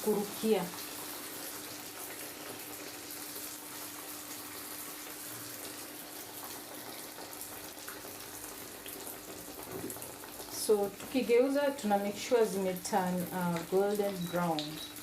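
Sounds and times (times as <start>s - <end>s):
dough deep-frying in oil: 0.0s - 15.0s.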